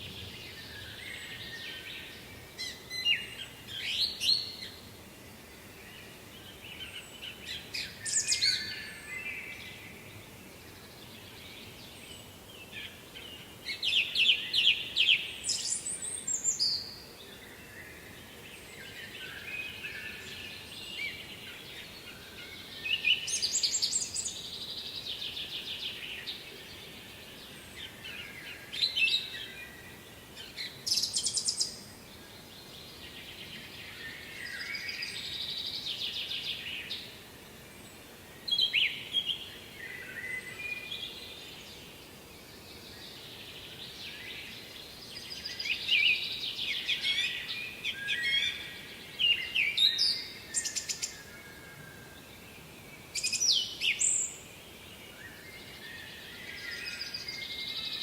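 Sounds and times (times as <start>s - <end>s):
faint background noise: 0.0s - 58.0s
songbirds chirping and trilling: 0.0s - 58.0s.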